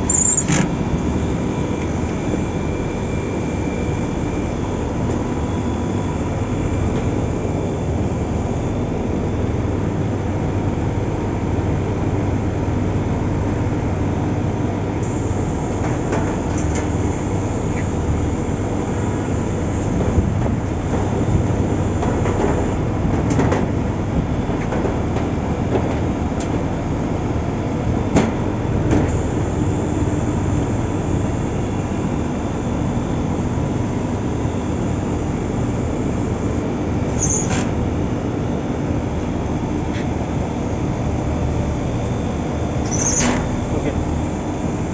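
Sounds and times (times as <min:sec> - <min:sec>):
machine running with low hum: 0:00.0 - 0:44.9.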